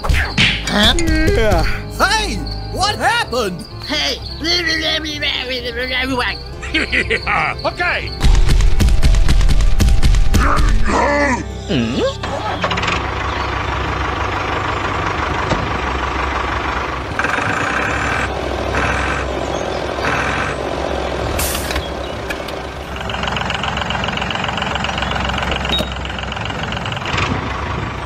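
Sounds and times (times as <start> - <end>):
low diesel-style drone: 1.6 - 28.0.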